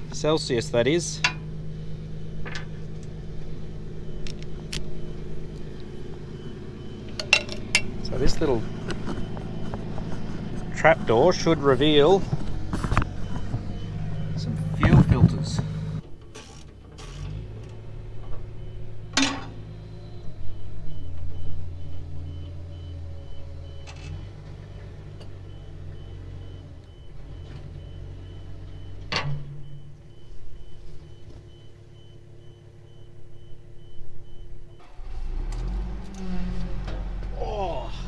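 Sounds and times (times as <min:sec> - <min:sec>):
diesel machinery running: 0:00.0 - 0:38.0
backup alarm beeping: 0:00.1 - 0:16.0, 0:17.3 - 0:36.0.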